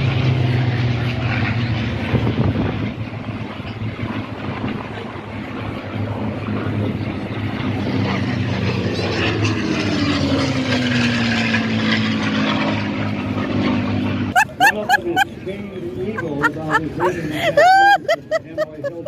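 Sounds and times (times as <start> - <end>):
propeller plane passing overhead: 0.0 - 19.0.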